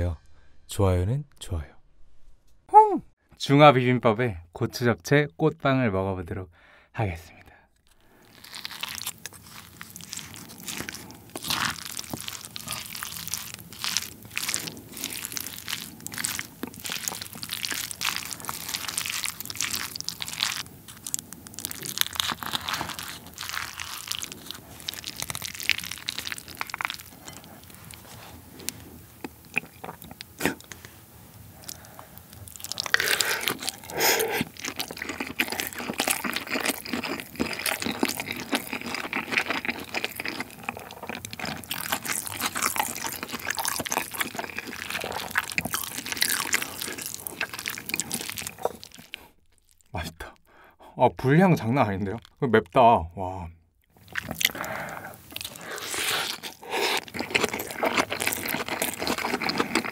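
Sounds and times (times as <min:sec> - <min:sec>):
person chewing food: 0:07.7 - 0:50.7, 0:53.7 - 0:59.9.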